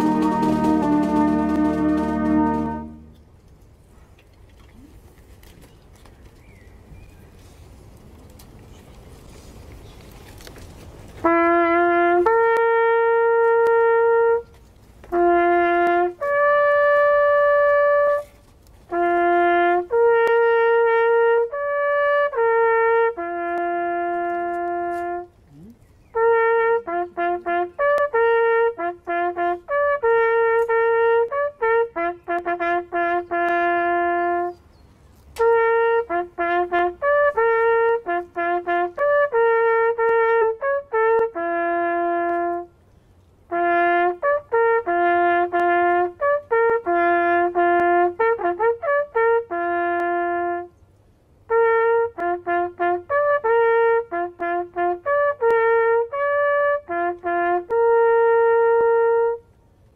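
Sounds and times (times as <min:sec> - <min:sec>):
solo trumpet melody: 0:00.0 - 0:03.4, 0:11.0 - 0:59.8.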